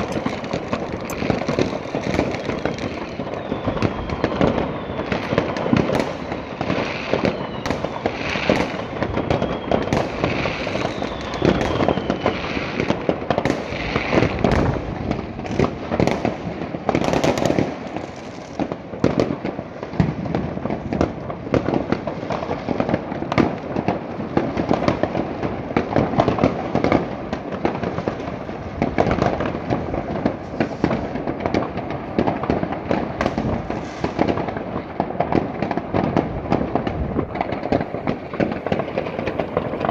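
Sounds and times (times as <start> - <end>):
fireworks crackling and banging: 0.0 - 39.9
whistling fireworks: 0.0 - 39.9.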